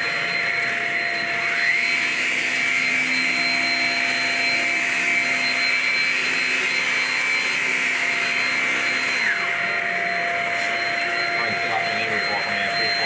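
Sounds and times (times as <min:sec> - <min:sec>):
stick vacuum motor whine: 0:00.0 - 0:13.0.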